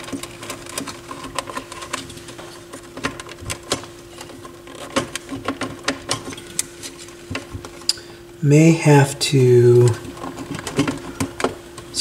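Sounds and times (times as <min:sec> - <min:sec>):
wires and plastic clips rattling: 0:00.0 - 0:08.0, 0:09.4 - 0:12.0
faint steady hum: 0:00.0 - 0:12.0.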